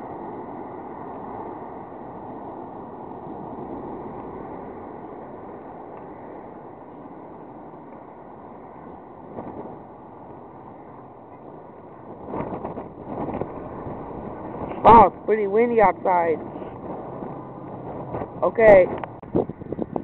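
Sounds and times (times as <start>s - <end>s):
electric train running past: 0.0s - 20.0s
wind on the microphone: 0.0s - 20.0s.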